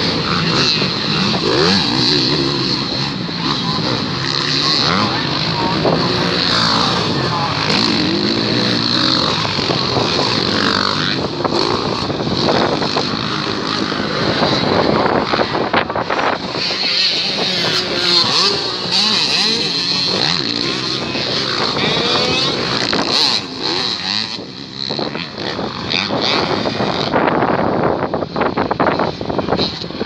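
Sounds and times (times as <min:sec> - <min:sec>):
motocross bike engines revving: 0:00.0 - 0:30.0.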